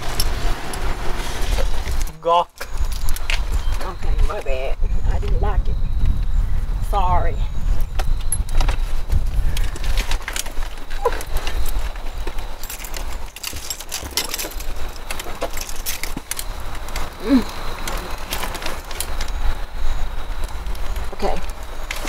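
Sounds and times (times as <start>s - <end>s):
wheelchair clicks and clatter: 0.0s - 4.6s, 8.0s - 22.0s.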